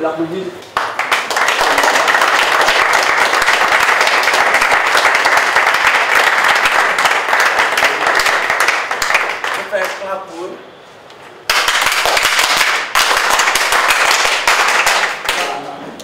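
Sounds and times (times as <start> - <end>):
crowd applauding: 0.7 - 10.2, 11.5 - 15.6.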